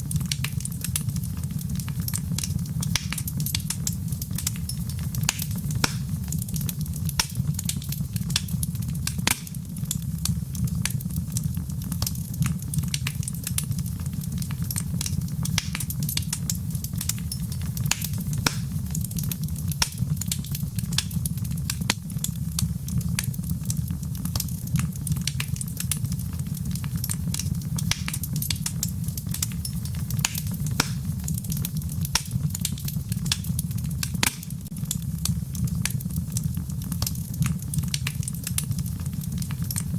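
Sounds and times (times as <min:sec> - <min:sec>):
low rumble of fire: 0:00.0 - 0:39.9
wood fire crackling: 0:00.0 - 0:39.9.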